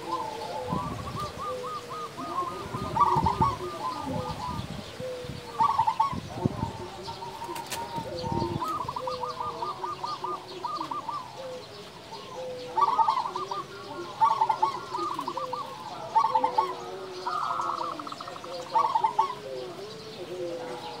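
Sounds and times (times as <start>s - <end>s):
doves cooing: 0.0s - 21.0s.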